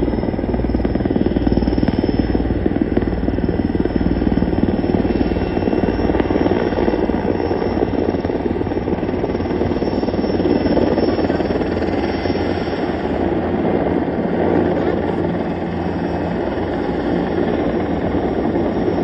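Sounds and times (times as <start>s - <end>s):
helicopter engine noise: 0.0s - 19.0s
helicopter rotor beat: 0.0s - 19.0s.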